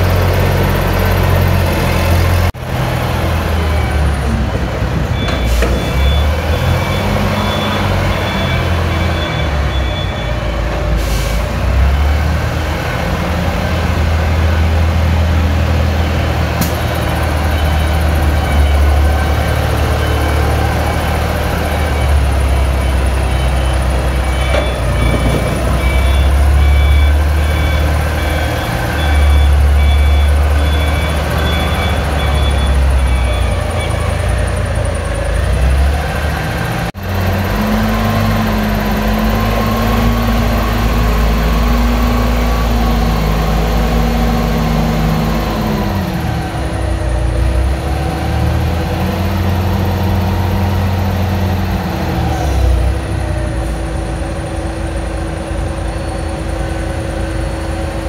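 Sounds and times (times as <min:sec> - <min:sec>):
forklift engine revving: 0:00.0 - 0:58.0.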